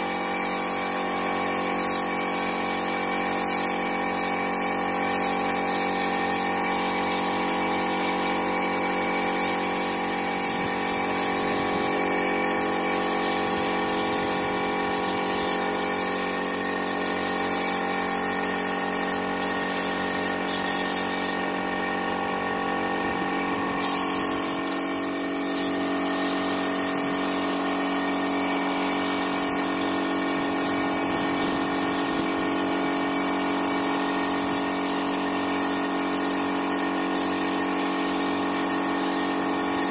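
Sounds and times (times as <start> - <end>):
spray gun hissing: 0.0 - 21.6, 23.8 - 39.9
mechanical hum: 0.0 - 39.9.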